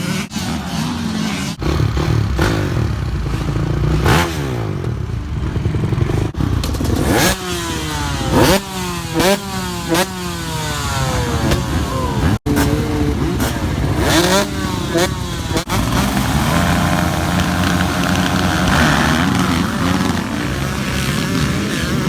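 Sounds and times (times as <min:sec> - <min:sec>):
motocross bike engines revving: 0:00.0 - 0:22.0
sharp throttle blips: 0:00.0 - 0:22.0.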